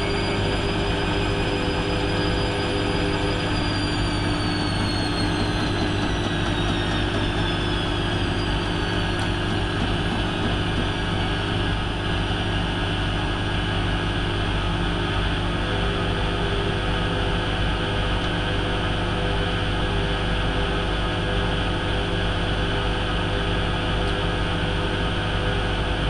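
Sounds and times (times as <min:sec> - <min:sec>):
high motor whine: 0:00.0 - 0:26.0
washing machine spinning: 0:00.0 - 0:26.0.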